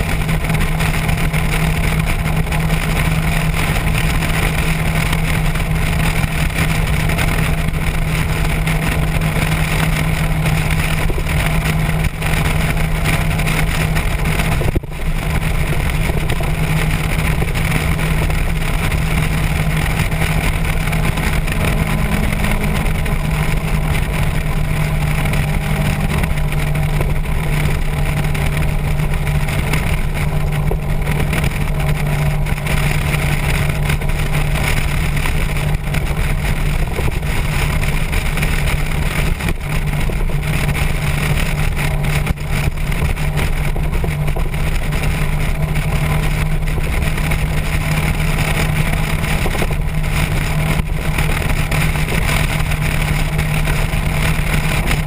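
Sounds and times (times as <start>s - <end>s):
motorcycle engine cruising: 0.0s - 55.0s
wind rush on microphone: 0.0s - 55.0s.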